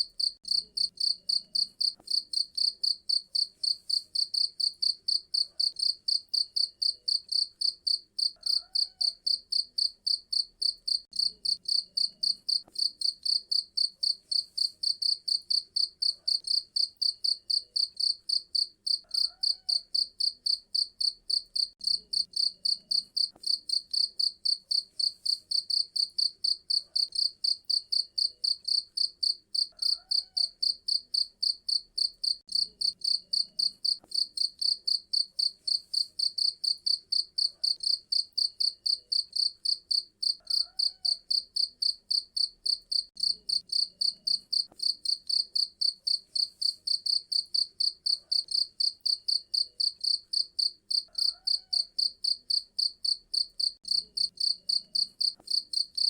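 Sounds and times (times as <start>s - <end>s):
cricket chirping: 0.2s - 56.0s.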